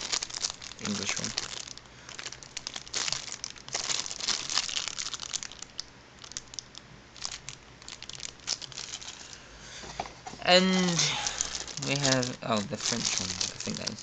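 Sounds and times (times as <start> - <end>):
plastic bag crinkling: 0.0 - 9.4, 10.6 - 14.0.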